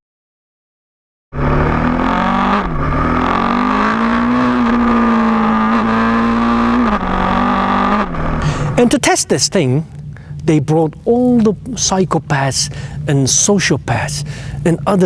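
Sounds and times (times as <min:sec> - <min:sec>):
motorcycle engine at high revs: 0:01.4 - 0:15.0.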